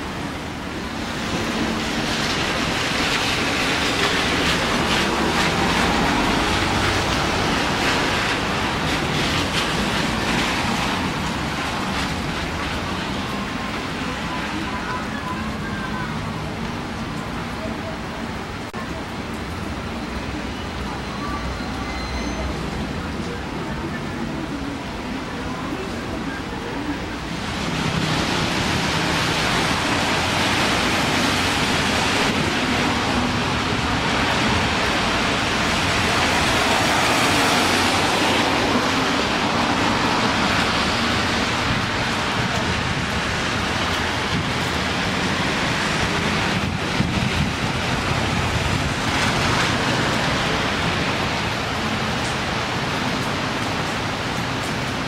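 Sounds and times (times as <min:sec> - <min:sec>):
rain falling on wet pavement: 0:00.0 - 0:55.0.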